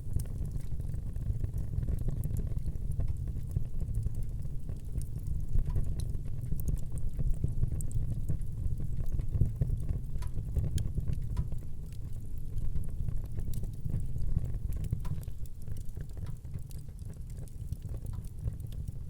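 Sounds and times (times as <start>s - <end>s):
wood fire burning: 0.0s - 19.0s.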